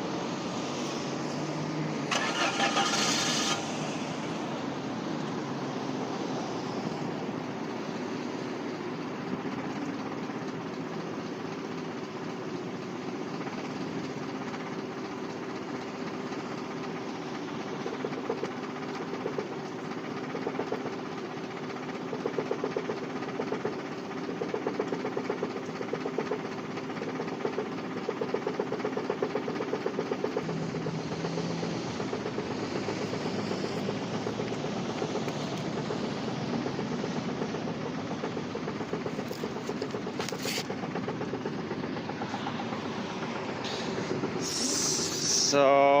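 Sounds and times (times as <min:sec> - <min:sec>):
car engine idling rough: 0:00.0 - 0:46.0
uneven engine pulsing: 0:00.0 - 0:46.0.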